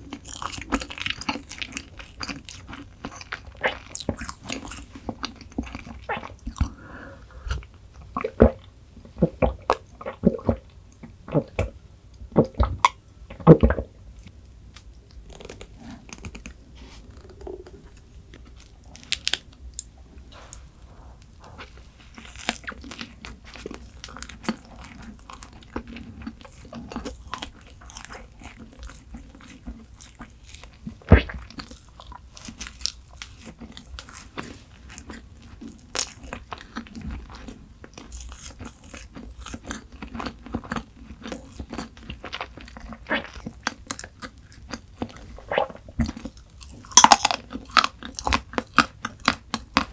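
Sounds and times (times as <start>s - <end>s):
crunching and chewing: 0.0s - 11.8s, 12.4s - 49.9s.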